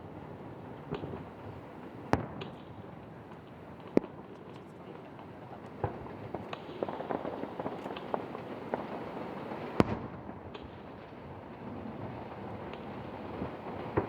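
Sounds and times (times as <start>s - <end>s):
fireworks cracking and popping: 0.5s - 14.0s.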